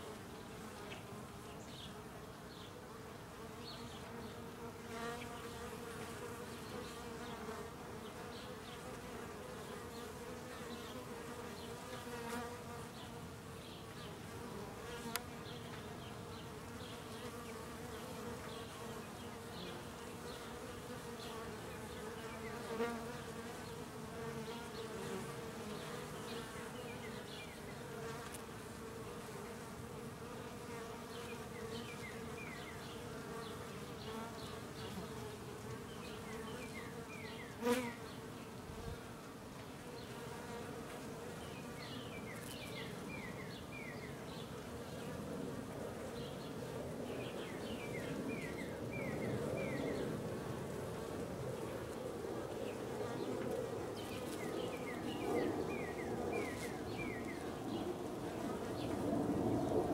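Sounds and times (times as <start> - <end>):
bees buzzing: 3.6 - 45.1, 46.2 - 59.0.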